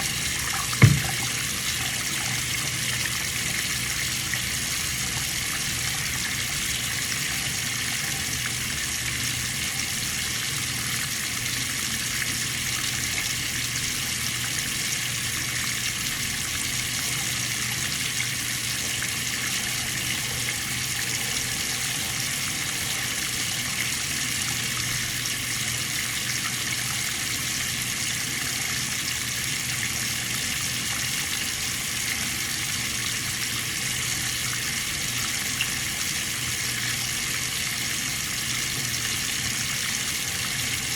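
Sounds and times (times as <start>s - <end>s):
water running: 0.0s - 40.9s.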